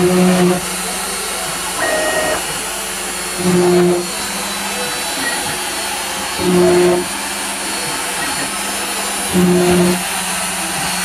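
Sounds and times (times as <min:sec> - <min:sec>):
router spindle whirring: 0:00.0 - 0:11.0
short low machine hum: 0:00.0 - 0:11.0.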